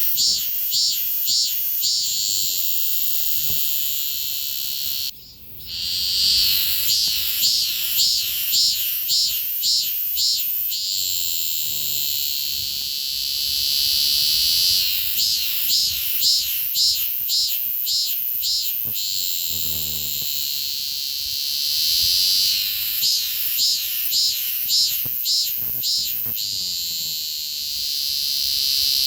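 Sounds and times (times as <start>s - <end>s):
cicada singing: 0.0s - 29.0s.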